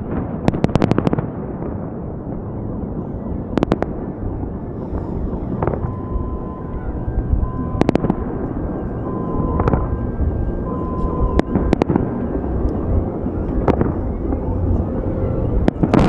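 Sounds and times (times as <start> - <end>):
fireworks rumbling bursts: 0.0 - 16.0.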